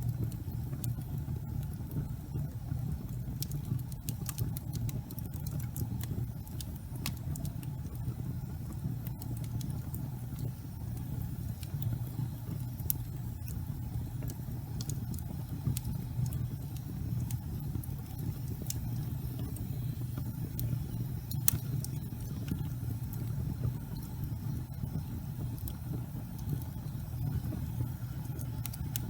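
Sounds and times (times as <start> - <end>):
fireplace fire crackling and popping: 0.0 - 29.0.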